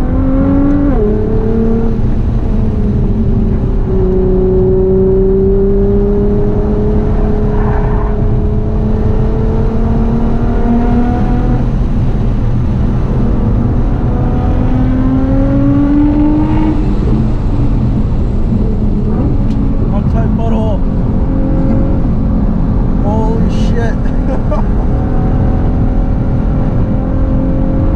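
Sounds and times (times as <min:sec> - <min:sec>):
car engine under load: 0:00.0 - 0:27.9.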